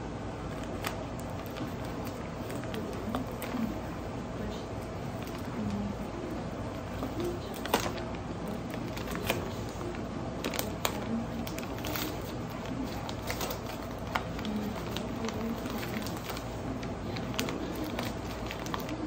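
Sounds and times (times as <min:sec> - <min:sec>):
steady low hum: 0:00.0 - 0:19.0
paper envelope rustling: 0:00.4 - 0:19.0.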